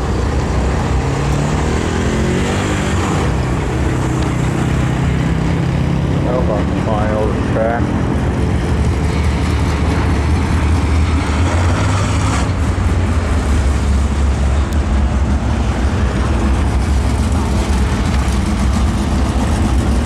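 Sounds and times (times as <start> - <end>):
race car engines rumbling: 0.0 - 20.0.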